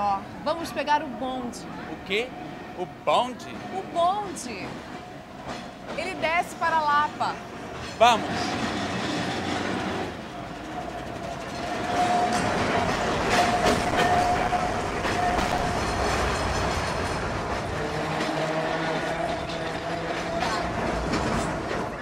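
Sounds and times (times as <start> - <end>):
tram whining on rails: 0.0 - 22.0
tram clanks: 2.0 - 22.0.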